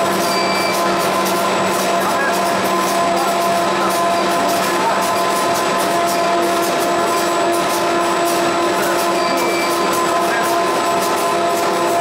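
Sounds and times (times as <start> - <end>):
printing press running: 0.0 - 12.0.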